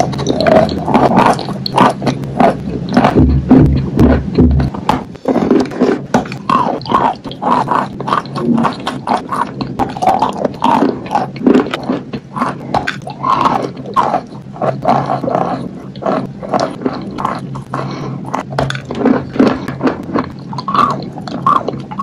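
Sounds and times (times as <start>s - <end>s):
chalk crunching when chewed: 0.0s - 22.0s
wet mouth sounds: 0.0s - 22.0s.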